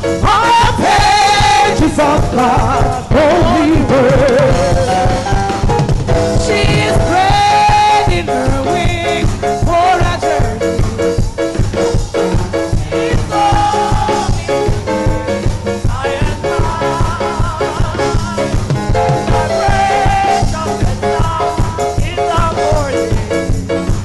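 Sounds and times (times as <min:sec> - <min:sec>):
drum kit steady beat: 0:00.0 - 0:24.0
gospel band playing: 0:00.0 - 0:24.0.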